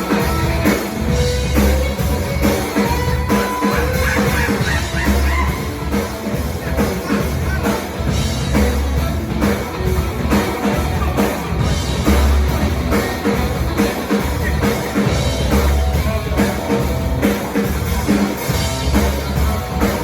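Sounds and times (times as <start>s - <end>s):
heavy pulsing bass: 0.0s - 20.0s
live rock band playing: 0.0s - 20.0s.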